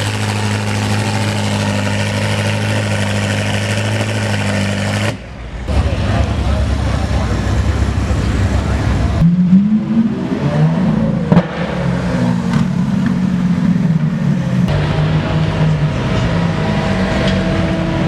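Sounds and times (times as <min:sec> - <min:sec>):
car engine running: 0:00.0 - 0:10.2, 0:10.9 - 0:18.0.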